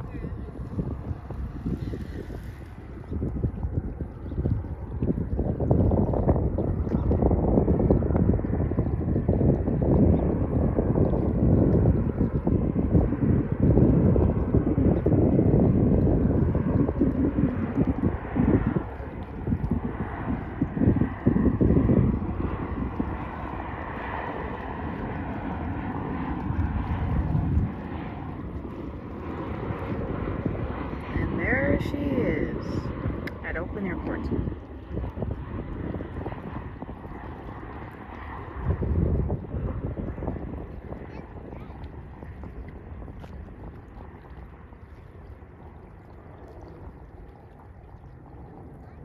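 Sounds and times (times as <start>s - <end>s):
jet engines drone: 0.0s - 49.0s
wind buffeting microphone: 0.0s - 49.0s.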